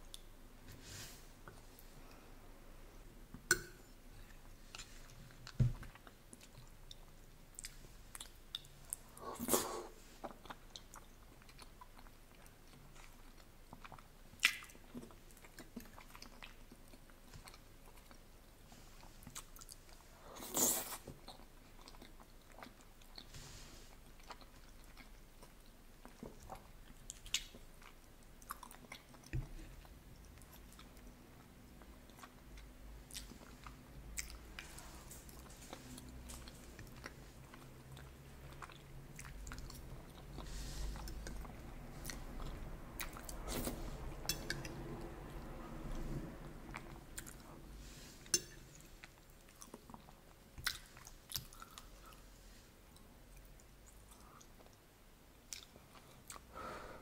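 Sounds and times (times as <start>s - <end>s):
chewing soft food: 4.2s - 56.5s.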